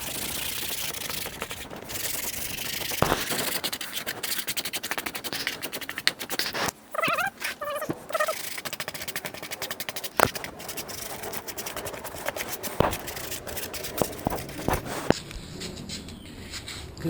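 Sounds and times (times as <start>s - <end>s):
scratchy scraping of foam: 0.0s - 15.8s.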